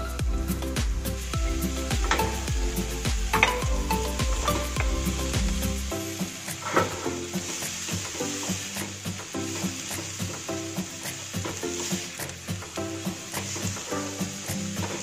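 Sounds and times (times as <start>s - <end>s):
background music: 0.0s - 15.0s
greens sizzling in a wok: 0.0s - 15.0s.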